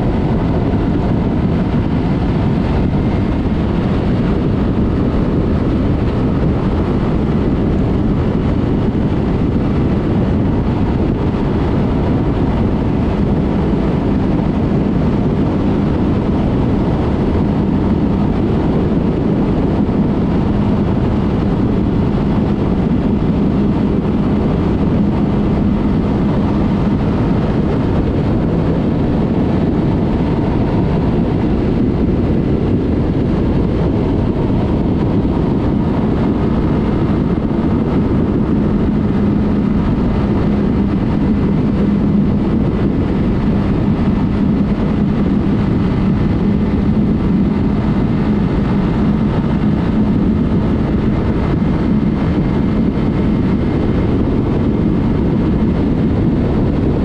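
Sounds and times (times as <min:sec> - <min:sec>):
heavy wind rush: 0:00.0 - 0:57.0
motorcycle engine cruising: 0:00.0 - 0:57.0.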